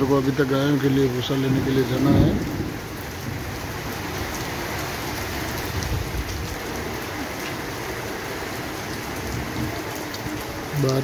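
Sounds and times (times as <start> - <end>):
heavy rain on concrete: 0.0 - 11.0
raindrops ticking: 0.0 - 11.0.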